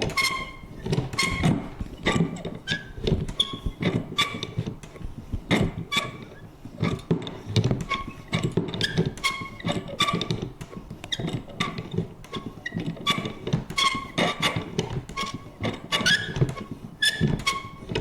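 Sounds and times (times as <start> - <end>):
paper punch clicking and creaking: 0.0 - 18.0.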